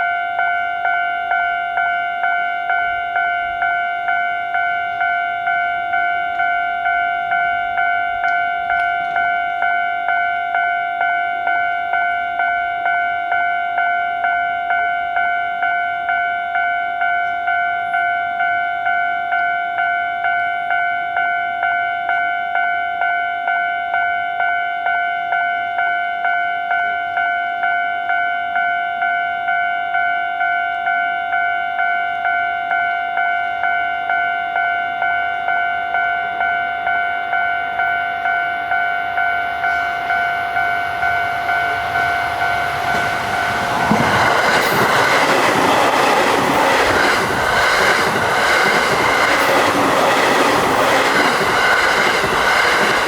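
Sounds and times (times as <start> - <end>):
railroad crossing bell ringing: 0.0 - 53.0.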